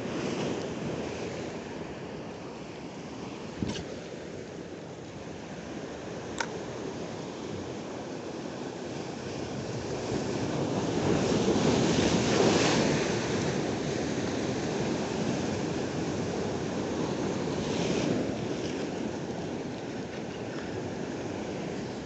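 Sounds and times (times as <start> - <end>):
ocean surf breaking on rocks: 0.0 - 22.0.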